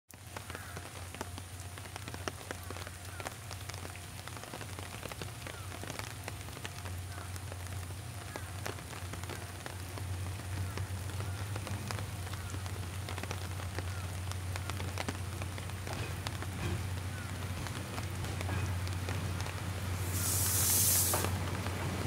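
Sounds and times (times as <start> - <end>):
crackling ticks: 0.4 - 19.7
distant train hum: 0.4 - 22.0.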